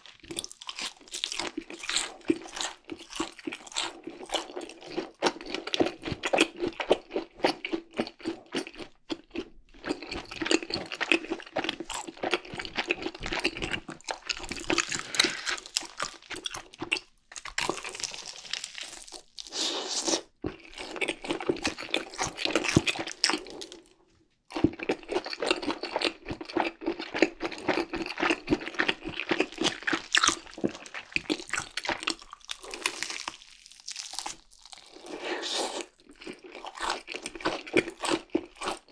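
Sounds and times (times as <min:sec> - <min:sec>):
chewing crispy fried chicken: 0:00.0 - 0:38.9.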